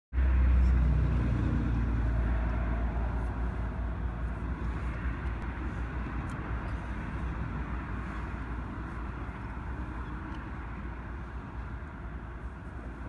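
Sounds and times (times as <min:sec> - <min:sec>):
car running heard from cabin: 0:00.2 - 0:13.0.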